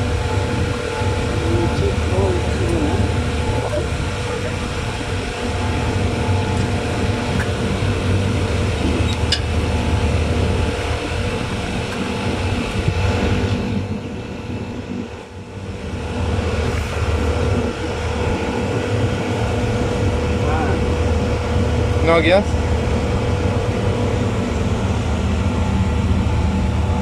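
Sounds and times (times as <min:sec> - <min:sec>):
chiller machinery droning: 0:00.0 - 0:27.0.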